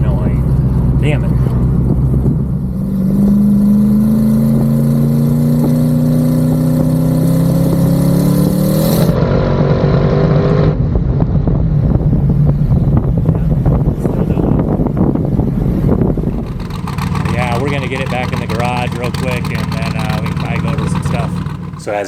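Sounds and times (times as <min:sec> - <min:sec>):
v-eight engine accelerating hard: 0:00.0 - 0:22.0.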